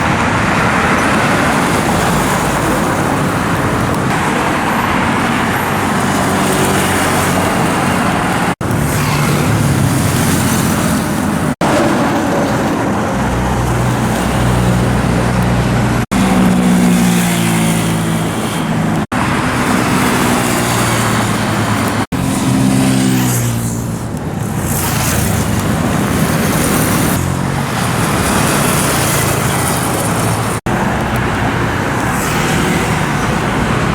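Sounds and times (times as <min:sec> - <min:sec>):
motorcycles passing and pulling away: 0:00.0 - 0:33.9
street traffic: 0:00.0 - 0:33.9.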